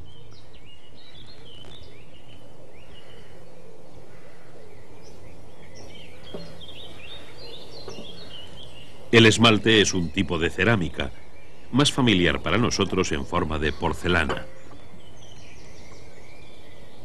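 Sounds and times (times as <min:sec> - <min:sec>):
outdoor ambience: 0:00.0 - 0:17.0
small birds chirping: 0:00.0 - 0:17.0.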